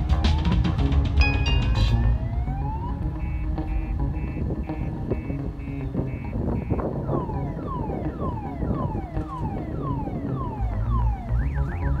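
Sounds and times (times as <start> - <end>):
car alarm beeping and whooping: 0.0 - 12.0.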